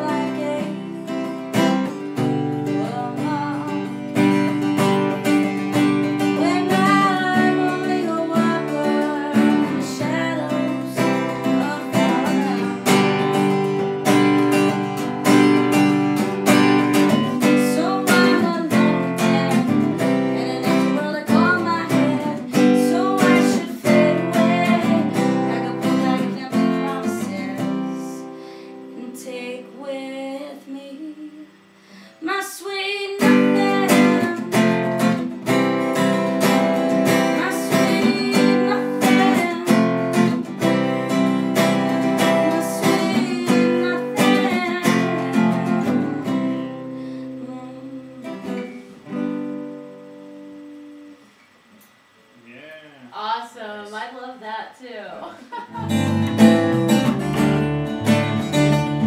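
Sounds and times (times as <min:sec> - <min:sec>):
acoustic guitar strumming: 0:00.0 - 0:52.4, 0:53.0 - 0:59.0.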